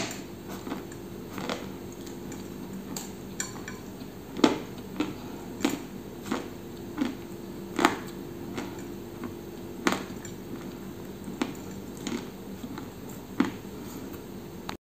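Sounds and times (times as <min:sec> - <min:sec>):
crunchy chewing: 0:00.0 - 0:14.3.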